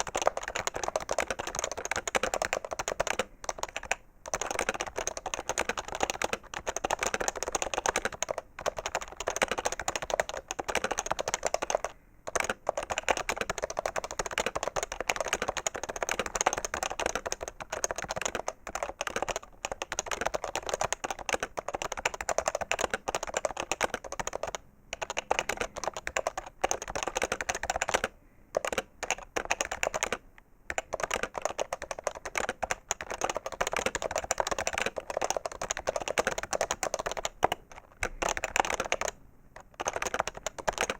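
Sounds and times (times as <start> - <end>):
fast keyboard typing: 0.0 - 40.9.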